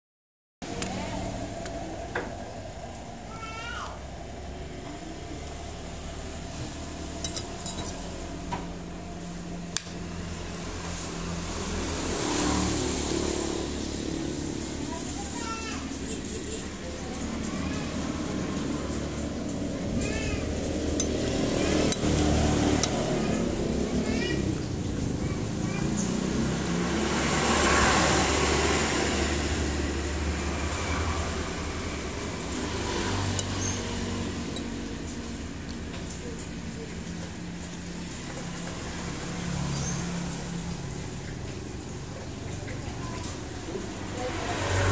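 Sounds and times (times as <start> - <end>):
road traffic hum: 0.6 - 44.9
vehicle passing by: 0.6 - 44.9.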